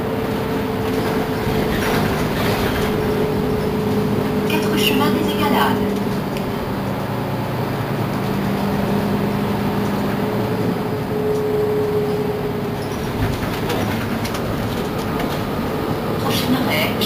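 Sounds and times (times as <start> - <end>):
bus drive noise from inside: 0.0 - 17.0
engine and drivetrain hum: 0.0 - 17.0
high drivetrain whine: 0.0 - 17.0.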